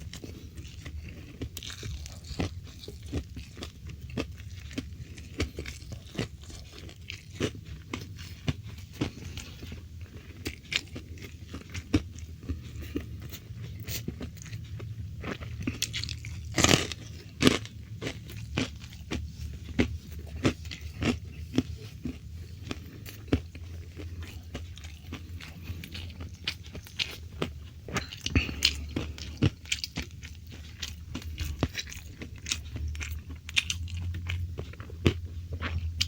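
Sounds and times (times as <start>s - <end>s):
chewing crisp food: 0.0s - 36.0s.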